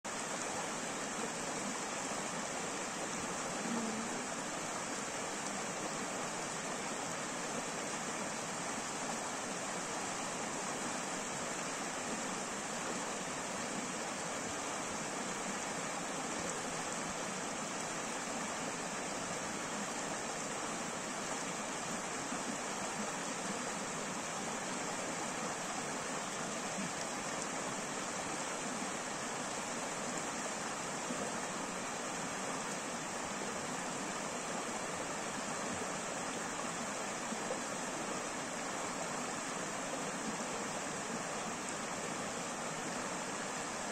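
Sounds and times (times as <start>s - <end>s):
stream flowing over stones: 0.1s - 43.9s.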